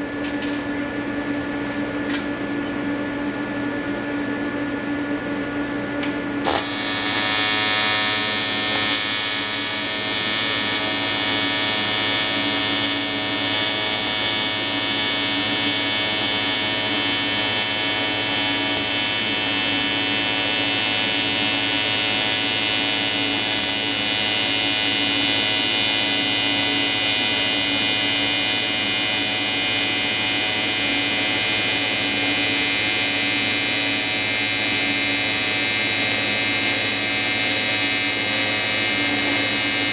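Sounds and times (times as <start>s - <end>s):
welding arc buzzing: 0.0s - 0.8s, 6.0s - 39.9s.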